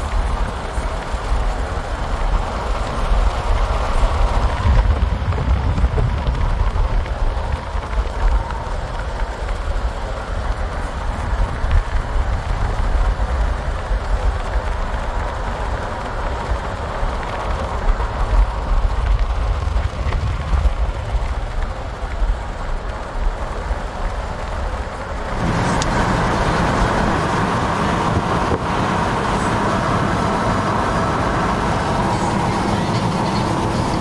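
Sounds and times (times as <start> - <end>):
road and wind noise in car: 0.0 - 34.0.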